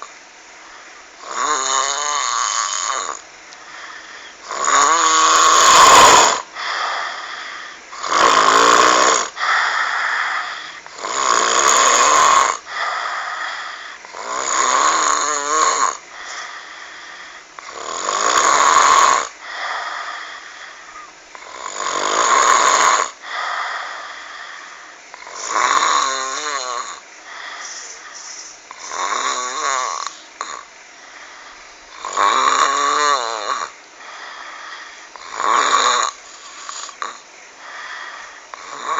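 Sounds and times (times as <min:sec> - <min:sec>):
person snoring: 0:01.2 - 0:38.9.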